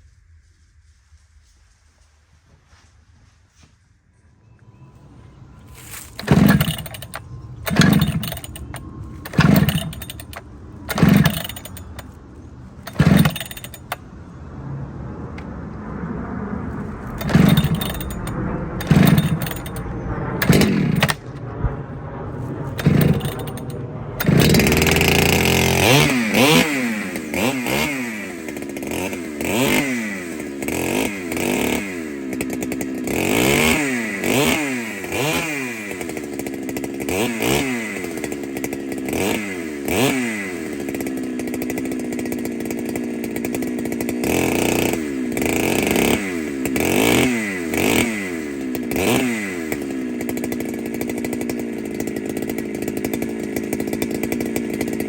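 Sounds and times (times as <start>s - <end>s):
chainsaw revving: 5.7s - 14.1s, 16.8s - 21.4s, 22.4s - 55.0s.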